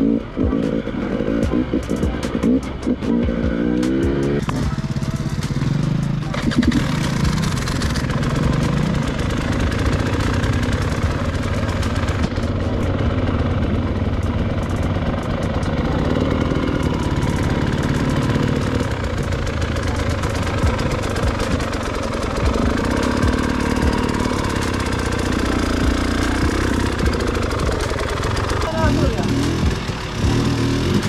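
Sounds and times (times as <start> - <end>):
dirt bike engines idling: 0.0 - 31.0.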